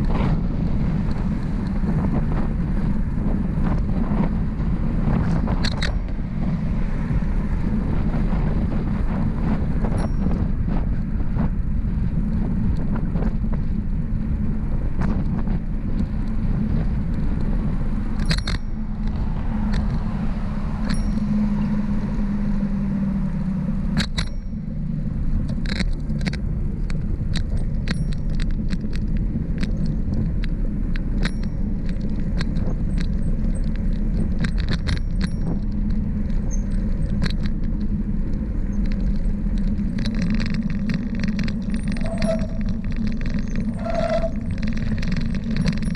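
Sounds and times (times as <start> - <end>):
bicycle clicks and rattles: 0.0 - 23.0, 23.8 - 45.9
wind and road rumble: 0.0 - 45.9.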